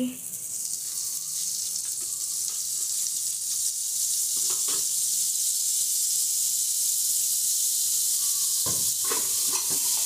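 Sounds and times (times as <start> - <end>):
butter sizzling in a pot: 0.0 - 10.0.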